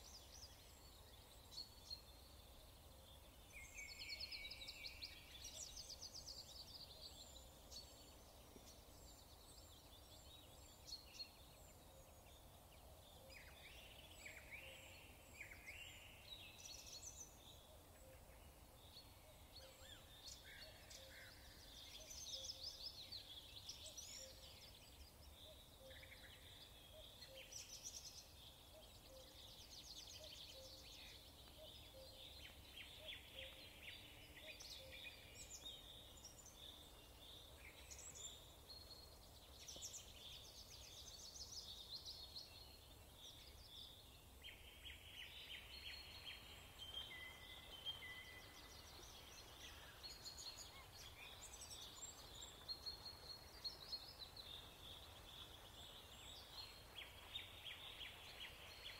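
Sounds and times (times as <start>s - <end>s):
low steady hiss: 0.0s - 58.9s
small birds chirping: 0.0s - 58.9s.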